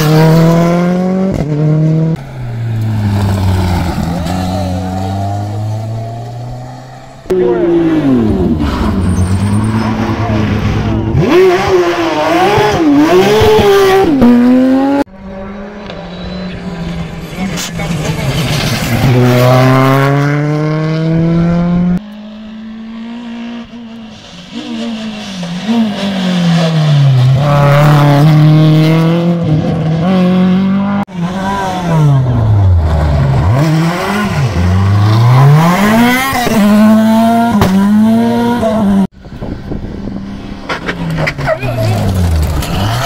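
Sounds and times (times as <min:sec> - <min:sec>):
rally cars passing revving hard: 0:00.0 - 0:43.0.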